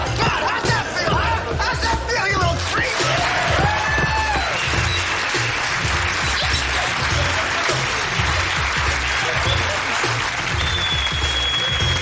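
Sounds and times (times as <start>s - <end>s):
music with repeating bass line: 0.0s - 12.0s
studio audience applauding: 2.1s - 12.0s.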